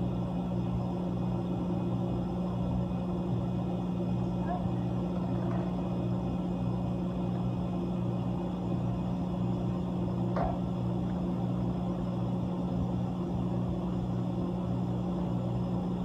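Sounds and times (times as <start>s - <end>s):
compressor humming: 0.0s - 16.0s.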